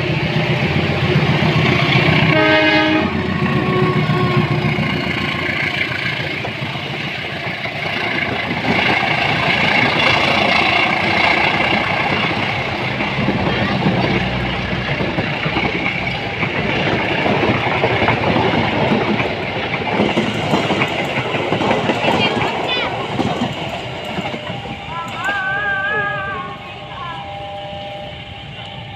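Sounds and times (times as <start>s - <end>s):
train wheels clattering on rails: 0.0s - 28.9s.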